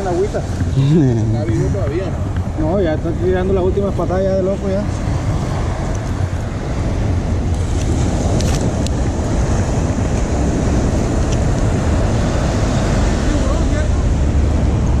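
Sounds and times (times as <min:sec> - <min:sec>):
beach surf: 0:00.0 - 0:15.0
wind buffeting microphone: 0:00.0 - 0:15.0.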